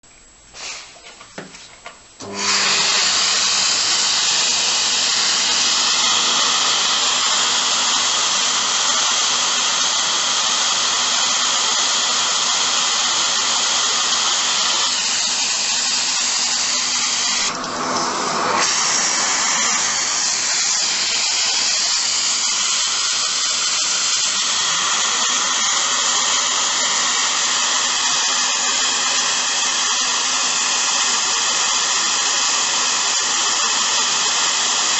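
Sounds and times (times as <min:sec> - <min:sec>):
vacuum cleaner motor whining: 0:02.2 - 0:34.9.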